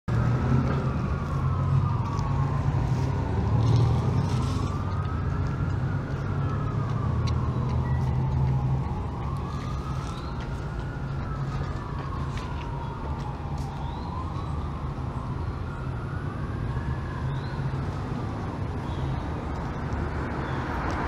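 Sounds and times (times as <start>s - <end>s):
siren wailing: 0.1s - 21.0s.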